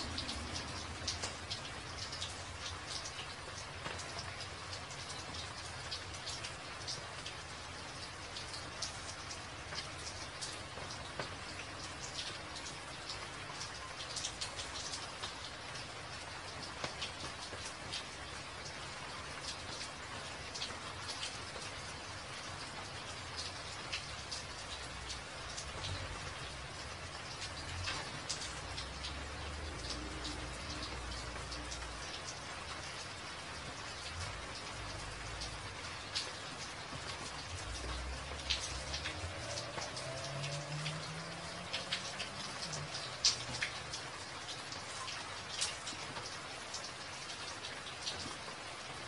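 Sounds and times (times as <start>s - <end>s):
drops ticking and splashing: 0.0s - 49.0s
rain on wet hard surface: 0.0s - 49.0s.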